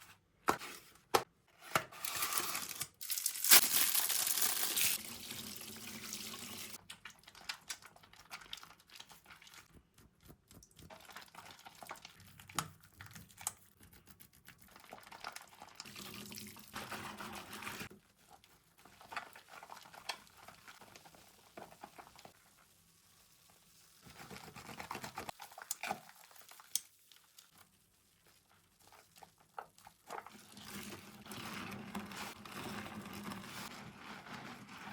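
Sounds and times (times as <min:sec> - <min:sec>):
soap lathering squishing by hand: 0:05.5 - 0:16.8, 0:17.8 - 0:34.9.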